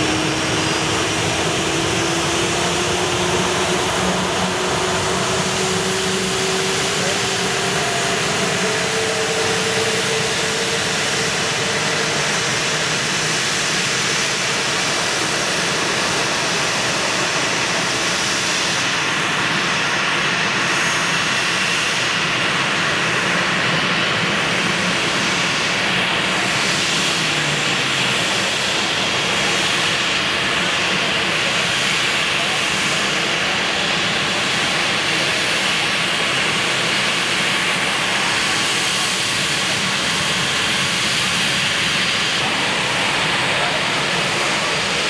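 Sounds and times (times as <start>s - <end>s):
high engine whine: 0.0s - 45.0s
jet engines taxiing: 0.0s - 45.0s.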